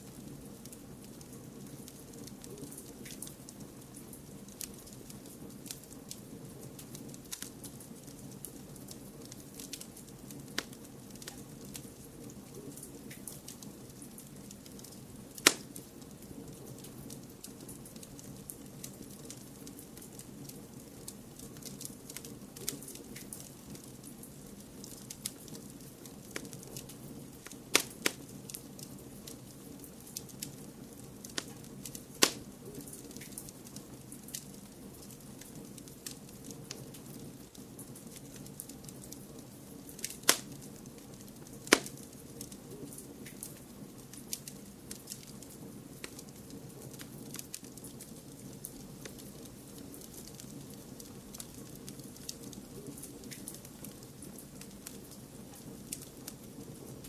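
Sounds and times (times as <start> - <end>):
fire pops and snaps: 0.0 - 57.0
wood fire crackling: 0.0 - 57.0.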